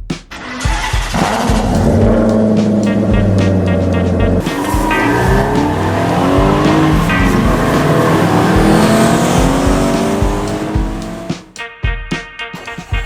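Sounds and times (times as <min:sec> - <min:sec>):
steady low beat: 0:00.0 - 0:12.2
race car engine revving: 0:00.3 - 0:11.6.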